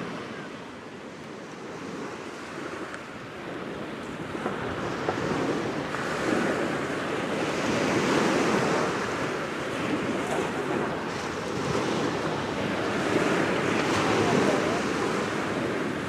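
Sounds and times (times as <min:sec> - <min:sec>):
waves washing on shore: 0:00.0 - 0:16.0
wind on microphone: 0:00.0 - 0:16.0.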